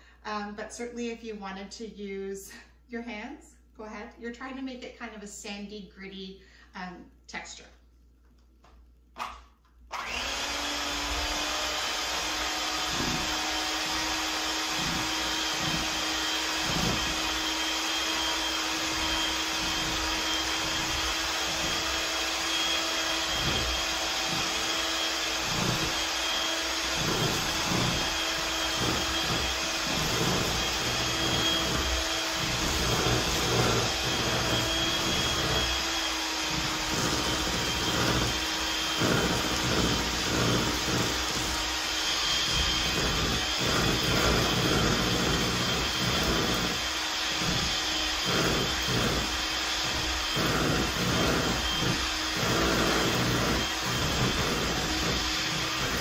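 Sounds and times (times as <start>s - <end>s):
electric hand mixer running: 9.9s - 56.0s.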